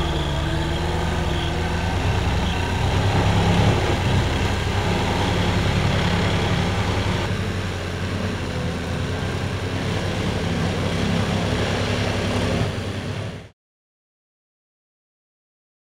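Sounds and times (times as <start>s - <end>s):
tractor engine running: 0.0s - 13.5s.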